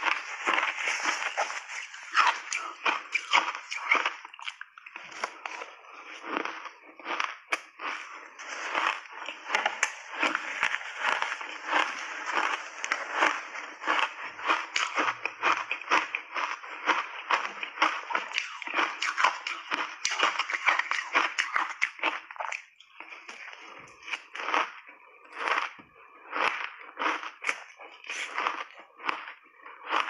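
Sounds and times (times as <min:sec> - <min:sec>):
crunching and chewing shaved ice: 0:00.0 - 0:30.0.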